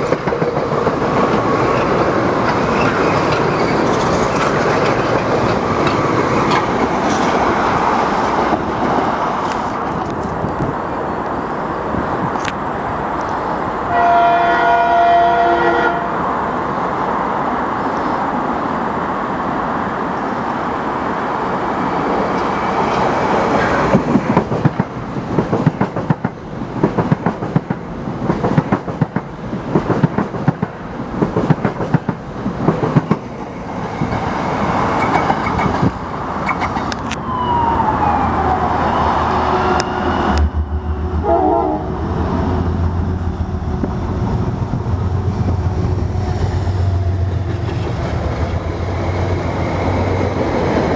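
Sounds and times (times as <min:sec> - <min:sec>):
train passing at speed: 0:00.0 - 0:50.9.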